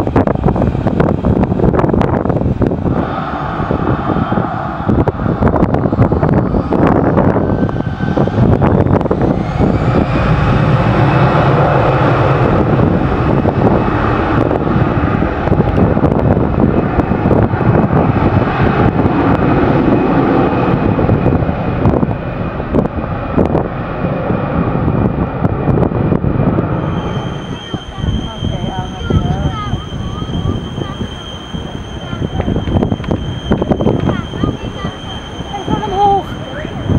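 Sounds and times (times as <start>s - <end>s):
jet engines spooling up: 0.0s - 36.9s.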